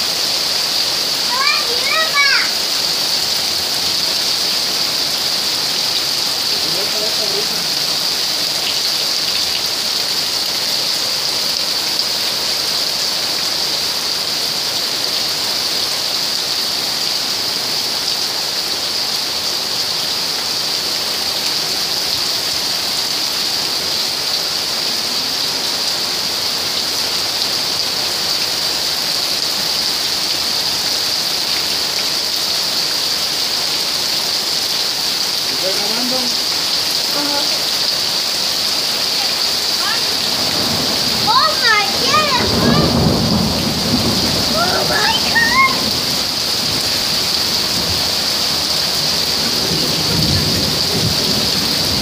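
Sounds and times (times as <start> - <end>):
heavy rain and hail: 0.0 - 52.0.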